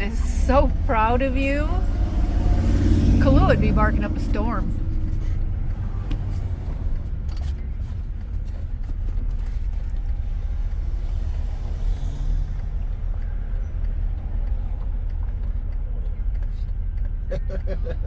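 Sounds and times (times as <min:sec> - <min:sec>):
car interior engine and road rumble: 0:00.0 - 0:18.0.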